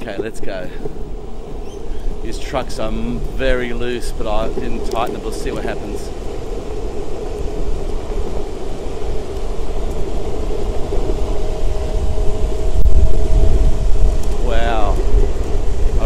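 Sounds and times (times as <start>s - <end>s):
skateboard wheel rumble: 0.0s - 16.0s
thin steady whine: 0.0s - 16.0s
wind buffeting microphone: 0.0s - 16.0s.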